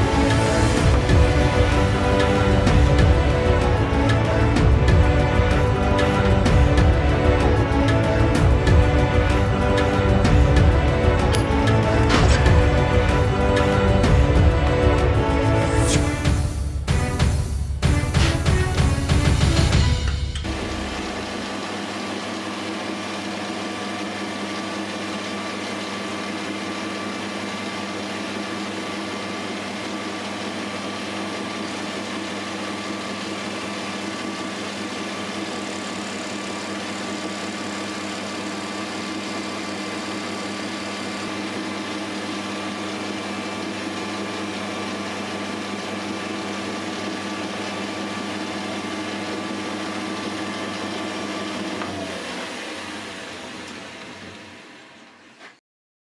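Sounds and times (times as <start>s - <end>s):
metal lathe motor hum: 0.0s - 16.0s, 19.8s - 55.5s.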